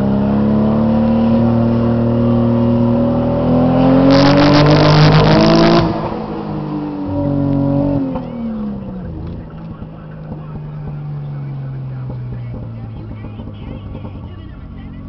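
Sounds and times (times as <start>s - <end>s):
car engine revving under load: 0.0s - 15.0s
engine misfire crackling: 0.9s - 15.0s.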